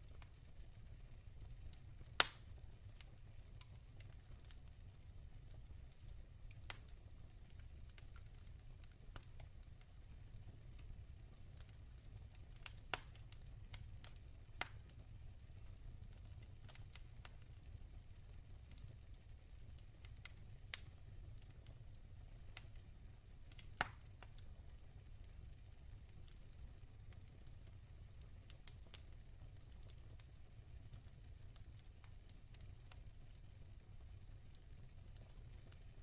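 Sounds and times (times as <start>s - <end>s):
fire popping: 0.0s - 36.0s
log fire crackling: 0.0s - 36.0s.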